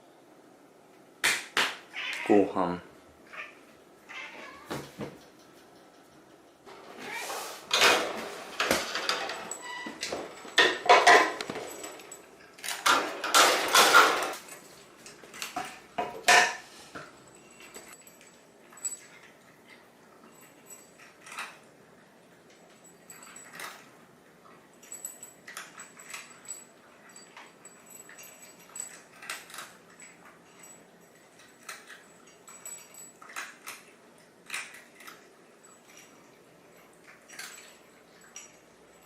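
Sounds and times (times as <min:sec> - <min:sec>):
dishes and utensils clattering: 0:04.1 - 0:21.7, 0:22.6 - 0:39.0.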